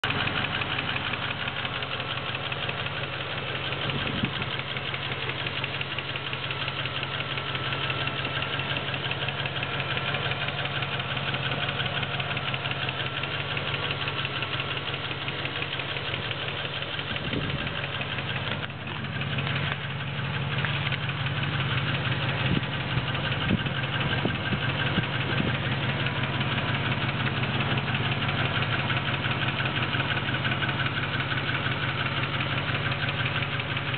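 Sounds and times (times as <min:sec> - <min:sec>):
engine idling: 0:00.0 - 0:33.9
fast even ticking: 0:00.0 - 0:33.9.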